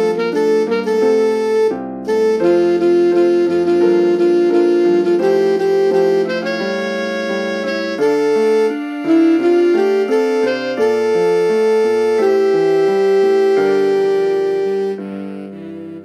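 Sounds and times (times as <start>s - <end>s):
piano accompaniment: 0.0s - 16.0s.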